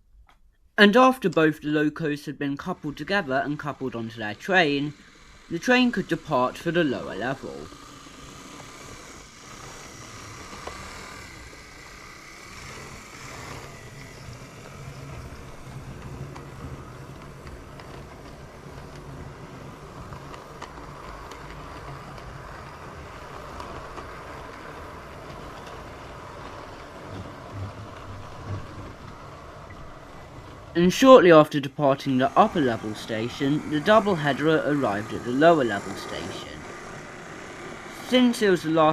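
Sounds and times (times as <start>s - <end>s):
wheels clicking over rails: 2.8s - 38.9s
electric motor hum: 4.0s - 38.9s.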